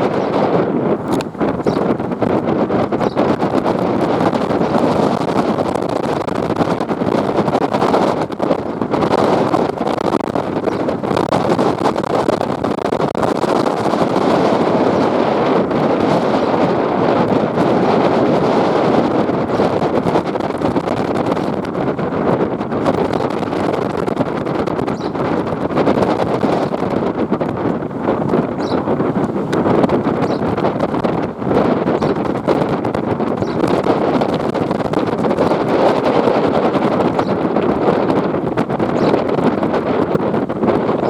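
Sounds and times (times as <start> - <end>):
boat hull and motor: 0.0 - 41.0
wind buffeting microphone: 0.0 - 41.0.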